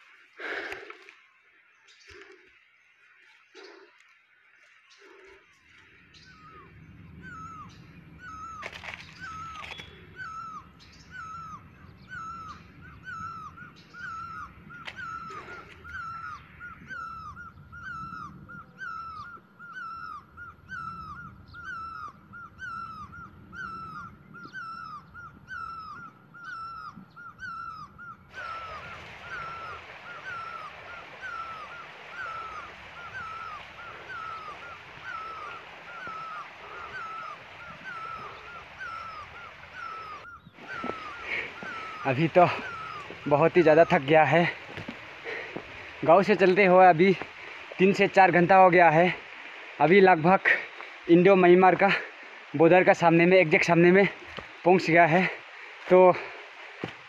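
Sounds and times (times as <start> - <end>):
forest background hiss: 0.0 - 57.0.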